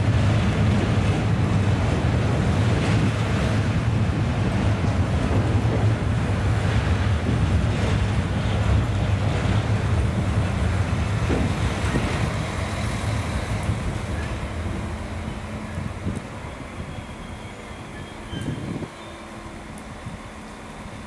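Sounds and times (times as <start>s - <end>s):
diesel train rumble: 0.0s - 21.0s.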